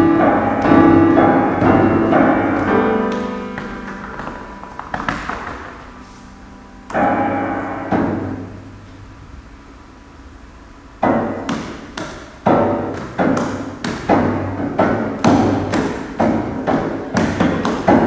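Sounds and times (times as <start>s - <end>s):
piano chords and strokes: 0.0s - 18.0s.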